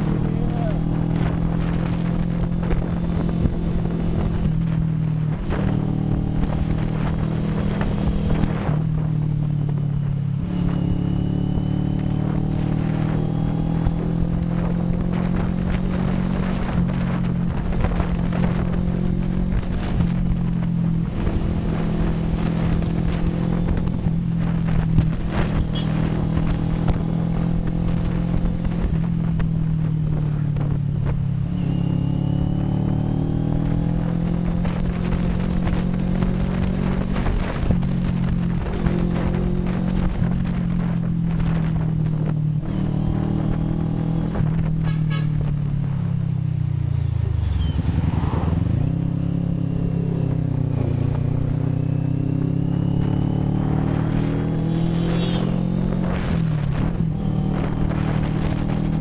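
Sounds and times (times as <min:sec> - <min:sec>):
wind buffeting microphone: 0:00.0 - 0:11.0, 0:11.6 - 0:59.0
motorcycle engine revving: 0:00.0 - 0:59.0.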